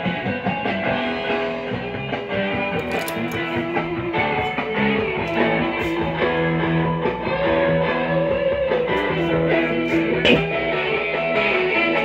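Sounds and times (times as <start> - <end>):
guitar music from tube radio speaker: 0.0 - 12.0.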